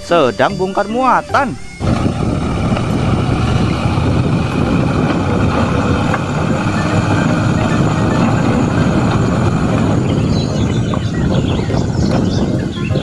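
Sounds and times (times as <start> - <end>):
truck engine running: 1.1 - 13.0
hydraulic hoist raising: 1.6 - 12.3.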